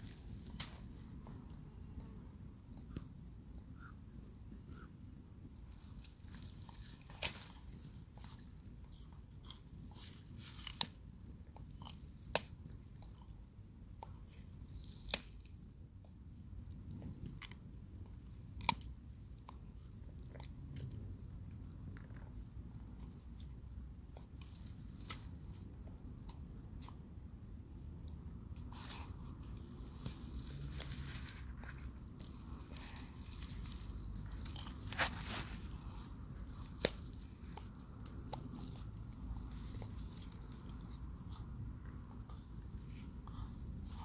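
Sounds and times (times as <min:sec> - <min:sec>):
tortoise crunching food: 0:00.0 - 0:44.0.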